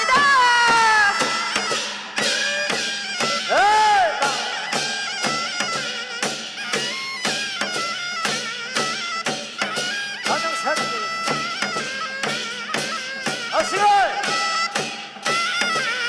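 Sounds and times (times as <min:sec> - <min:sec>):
quick drum strokes: 0:00.0 - 0:16.0.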